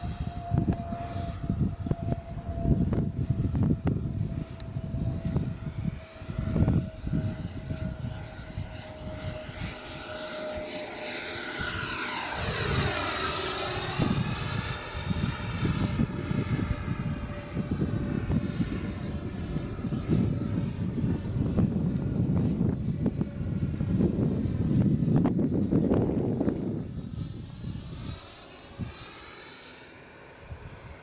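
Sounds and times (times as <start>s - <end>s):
jet model whine passing by: 0.0s - 31.0s.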